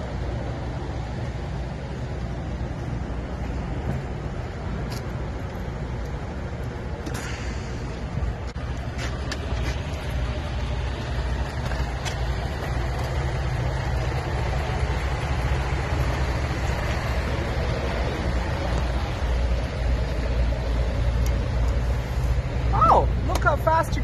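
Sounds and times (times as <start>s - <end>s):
diesel truck engines idling: 0.0s - 24.0s.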